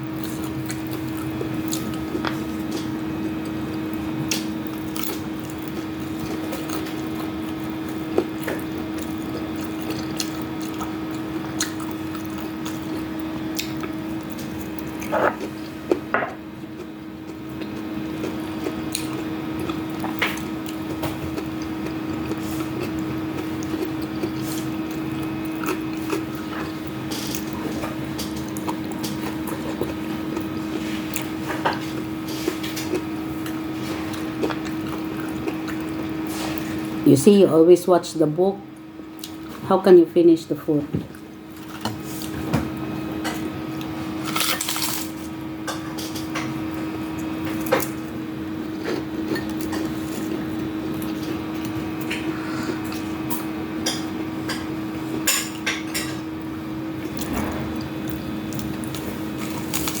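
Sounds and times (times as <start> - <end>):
steady low hum: 0.0 - 60.0
wet chewing of food: 0.1 - 37.0, 38.8 - 39.6, 43.2 - 60.0.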